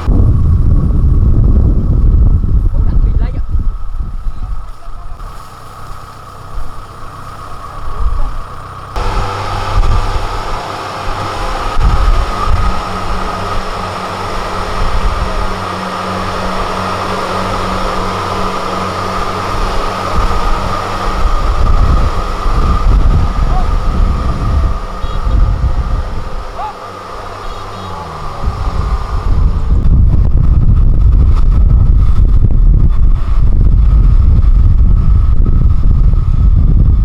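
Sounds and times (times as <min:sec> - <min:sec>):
combine harvester engine whining: 0:00.0 - 0:37.0.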